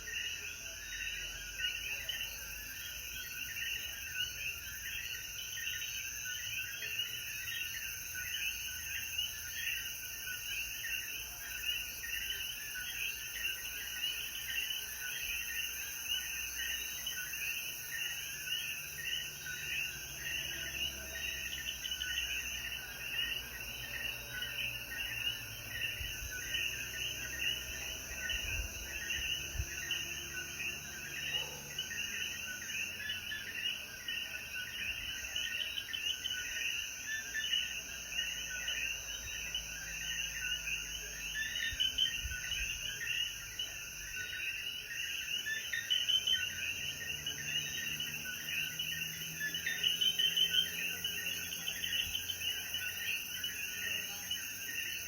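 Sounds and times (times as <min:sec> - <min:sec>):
frogs calling: 0:00.0 - 0:55.0.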